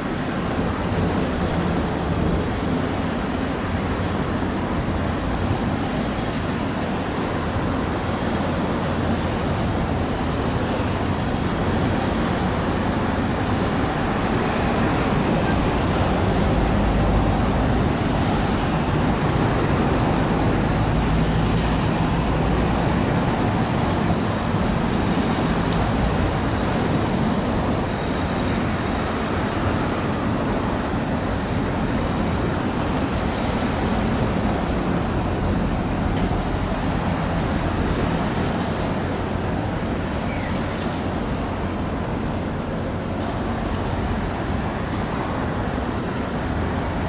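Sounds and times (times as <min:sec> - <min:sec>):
ship engine drone: 0:00.0 - 0:47.0
water rushing: 0:00.0 - 0:47.0.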